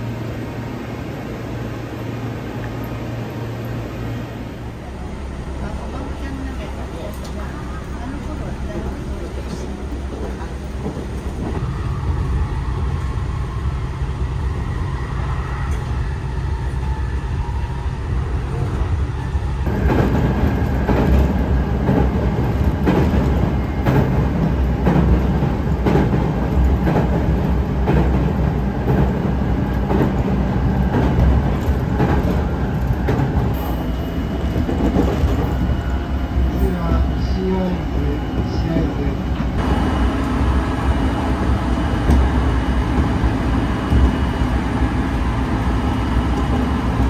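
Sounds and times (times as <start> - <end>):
train interior rumble: 0.0 - 47.0.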